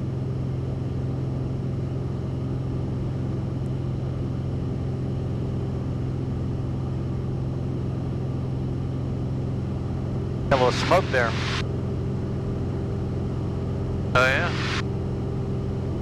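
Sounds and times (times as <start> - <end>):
propeller plane engine drone in cabin: 0.0 - 16.0.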